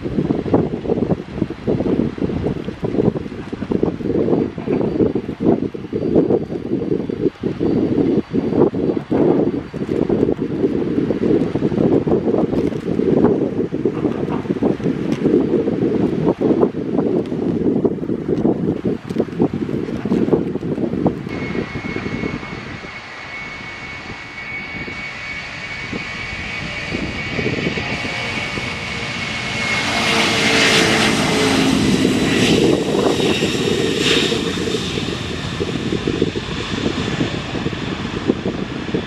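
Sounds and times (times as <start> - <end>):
jet engines at takeoff: 0.0 - 39.0
wind buffeting microphone: 0.0 - 39.0.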